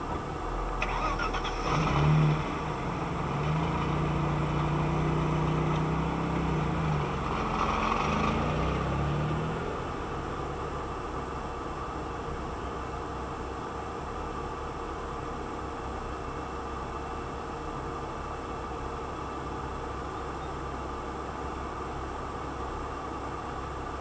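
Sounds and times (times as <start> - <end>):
car engine from inside car: 0.0 - 24.0.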